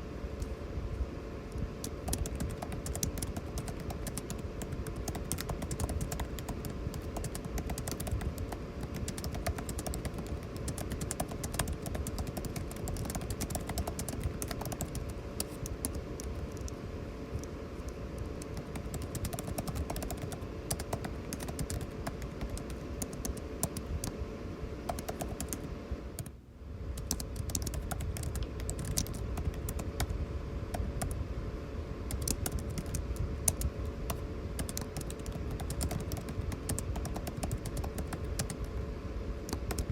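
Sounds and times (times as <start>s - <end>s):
air conditioning hum: 0.0s - 39.9s
typing on computer keyboard: 1.8s - 16.8s, 17.4s - 24.1s, 24.9s - 26.3s, 27.0s - 31.2s, 32.1s - 38.8s, 39.5s - 39.9s.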